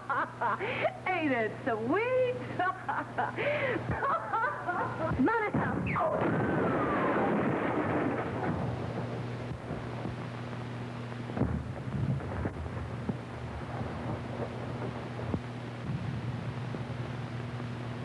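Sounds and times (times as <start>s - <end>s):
film soundtrack hiss and hum: 0.0s - 18.0s.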